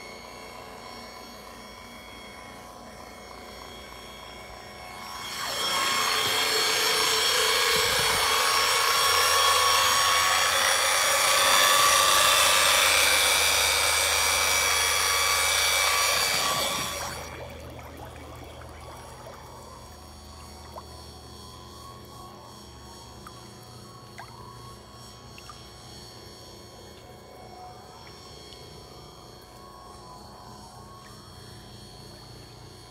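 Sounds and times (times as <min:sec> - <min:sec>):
pool vacuum motor whining: 0:00.0 - 0:32.9.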